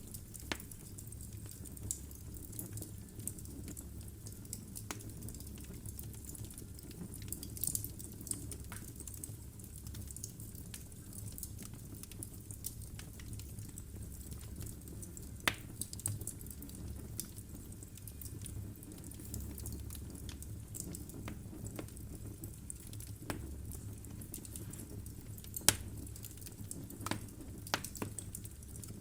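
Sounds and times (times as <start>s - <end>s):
logs crackling in a fireplace: 0.0s - 29.0s.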